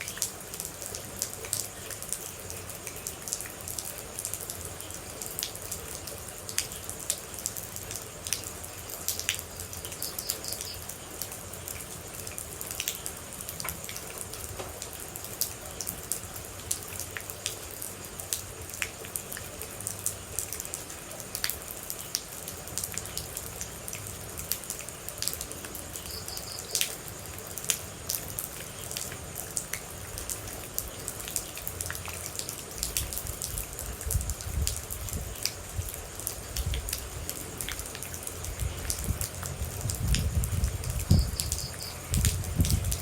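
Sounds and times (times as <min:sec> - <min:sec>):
rain dripping: 0:00.0 - 0:43.0.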